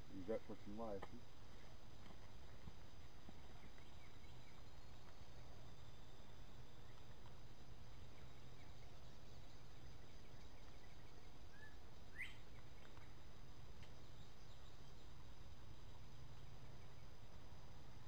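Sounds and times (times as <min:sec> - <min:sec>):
low woodland background noise: 0:00.0 - 0:18.0.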